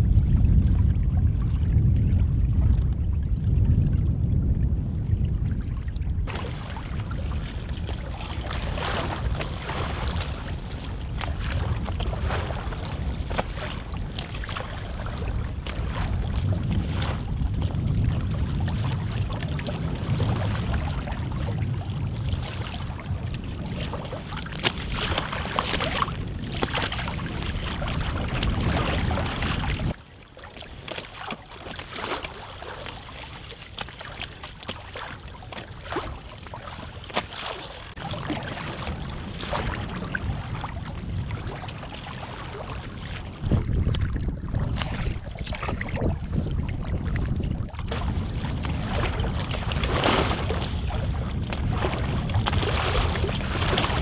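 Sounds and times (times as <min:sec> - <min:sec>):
waves lapping against canoe hull: 0:00.0 - 0:54.0
wind rumbling on microphone: 0:00.0 - 0:54.0.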